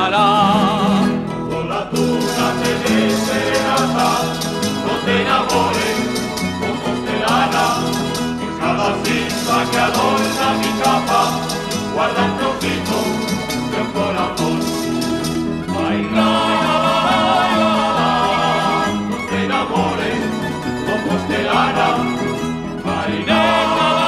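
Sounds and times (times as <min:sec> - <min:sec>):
acoustic song with strummed guitars: 0:00.0 - 0:24.0.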